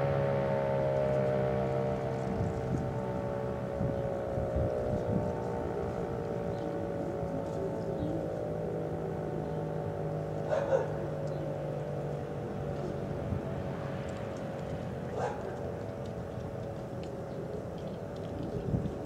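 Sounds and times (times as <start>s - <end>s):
rotating warning siren drone: 0.0s - 19.0s.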